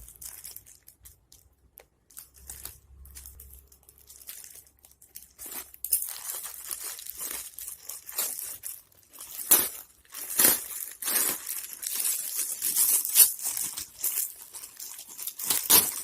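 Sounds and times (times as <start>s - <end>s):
packaging tearing and crinkling: 2.2s - 16.0s.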